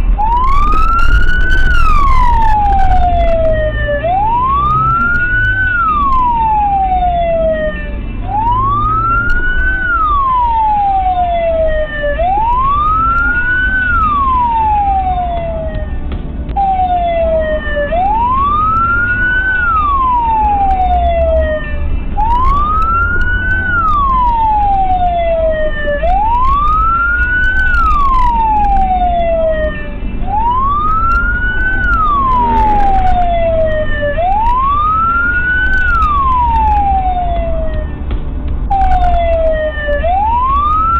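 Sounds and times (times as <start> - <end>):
car rumbling on road: 0.0 - 40.9
emergency siren wailing: 0.0 - 40.9.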